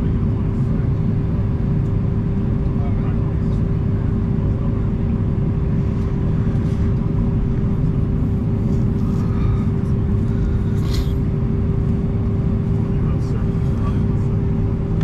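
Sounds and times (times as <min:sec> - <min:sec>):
aircraft cabin rumble: 0:00.0 - 0:15.0
constant hum: 0:00.0 - 0:15.0.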